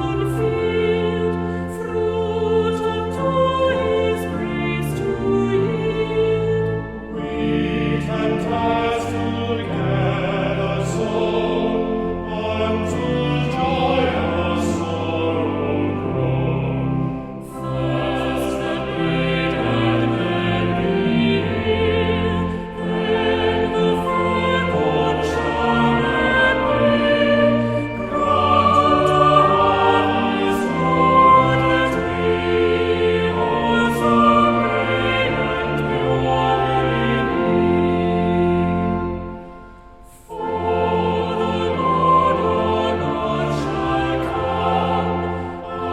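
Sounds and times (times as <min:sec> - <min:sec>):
choir singing a hymn: 0:00.0 - 0:45.9
sustained chordal accompaniment: 0:00.0 - 0:45.9.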